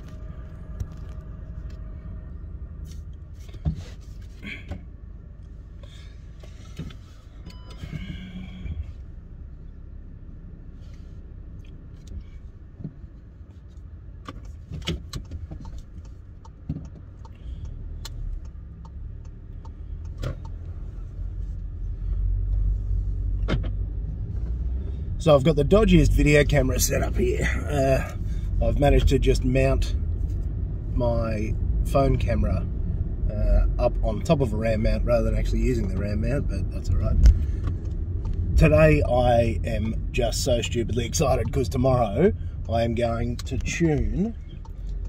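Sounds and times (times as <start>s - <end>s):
car engine rumble inside cabin: 0.0s - 45.0s.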